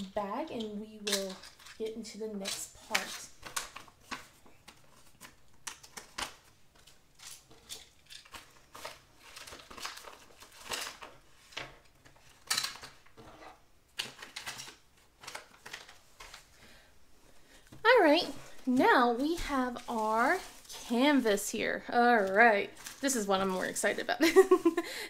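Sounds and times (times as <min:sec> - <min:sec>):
plastic bag rustling: 0:00.0 - 0:25.0.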